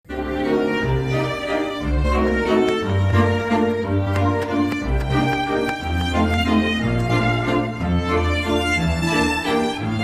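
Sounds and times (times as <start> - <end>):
violin: 0.0 - 10.0
cello: 0.1 - 10.0.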